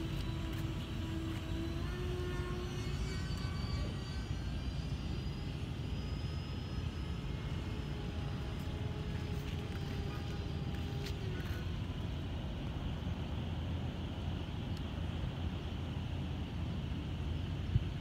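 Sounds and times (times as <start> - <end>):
electric ducted fans whining: 0.0 - 18.0.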